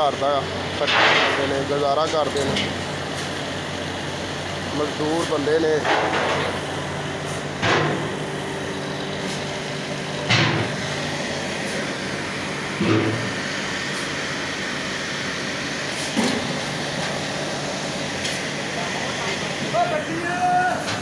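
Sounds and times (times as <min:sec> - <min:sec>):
machine drone with low hum: 0:00.0 - 0:21.0.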